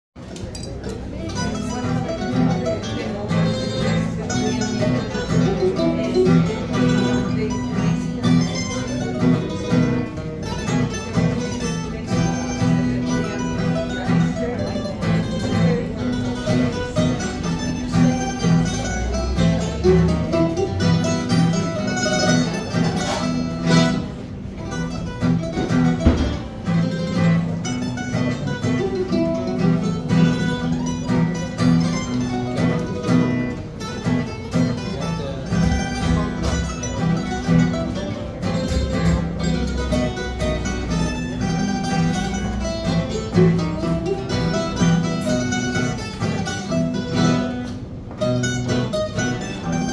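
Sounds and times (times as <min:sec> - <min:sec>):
acoustic guitars strumming: 0:00.2 - 0:49.9
mandolin: 0:00.2 - 0:49.9.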